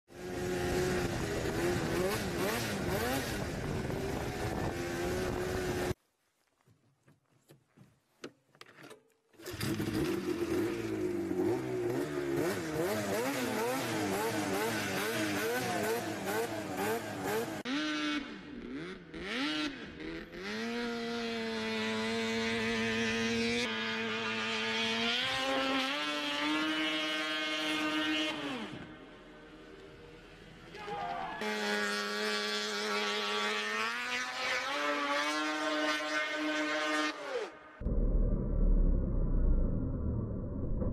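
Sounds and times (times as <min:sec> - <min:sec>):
snowmobile engine revving: 0:00.1 - 0:06.0, 0:09.4 - 0:37.8.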